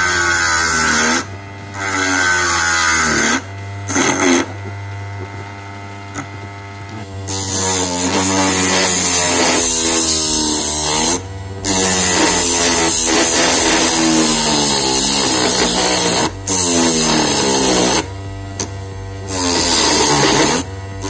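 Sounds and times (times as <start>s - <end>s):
lathe motor whining: 0.0s - 21.0s.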